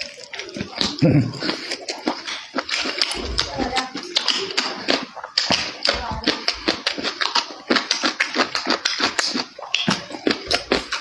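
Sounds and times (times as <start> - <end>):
wet chewing and lip smacking: 0.0 - 11.0.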